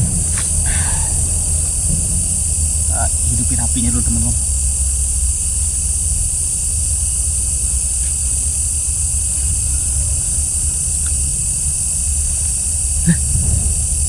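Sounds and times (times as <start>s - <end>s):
faint ticks: 0.0s - 14.0s
low rumble: 0.0s - 14.0s
night insects droning: 0.0s - 14.0s.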